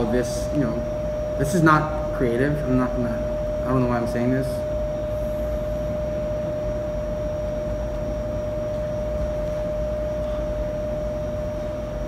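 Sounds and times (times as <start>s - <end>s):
room hum with whine: 0.0s - 12.0s.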